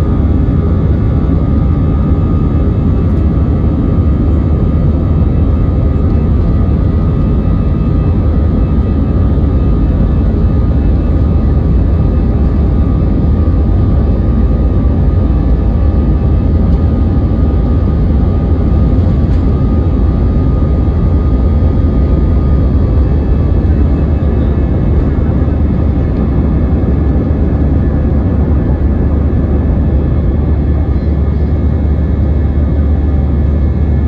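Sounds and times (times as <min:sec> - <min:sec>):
jet engine cabin rumble: 0:00.0 - 0:34.0.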